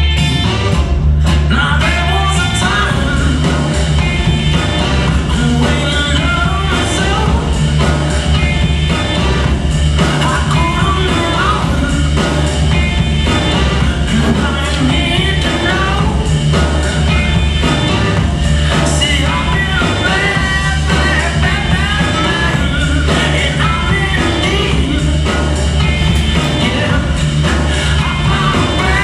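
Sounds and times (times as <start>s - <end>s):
rock song with singing: 0.0s - 29.0s.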